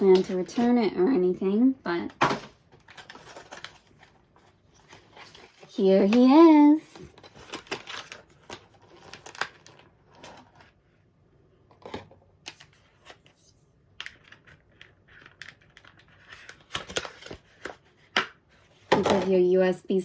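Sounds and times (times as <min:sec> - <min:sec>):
packaging clicks and rustles: 0:02.3 - 0:10.8, 0:11.6 - 0:19.3.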